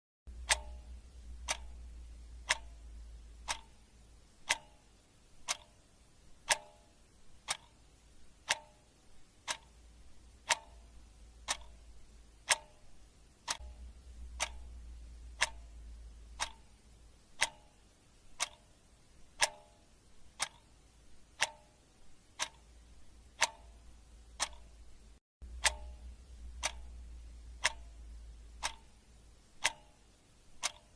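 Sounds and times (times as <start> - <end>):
clock ticking with metallic ring: 0.3 - 30.9
faint low hum: 0.3 - 30.9.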